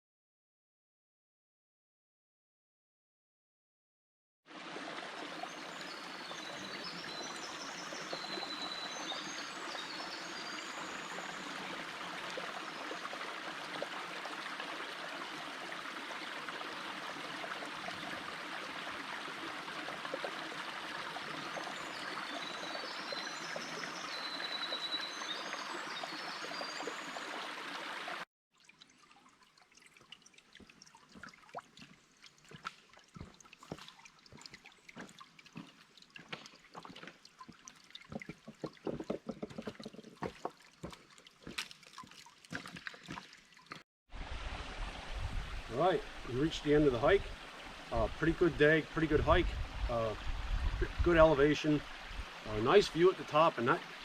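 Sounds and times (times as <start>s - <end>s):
creek babbling over rocks: 4.5s - 54.0s.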